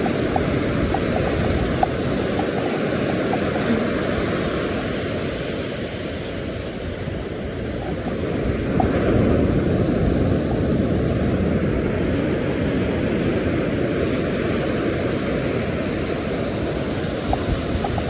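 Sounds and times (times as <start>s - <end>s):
wind buffeting microphone: 0.0s - 13.8s, 15.8s - 18.0s
surf rushing: 0.0s - 18.0s.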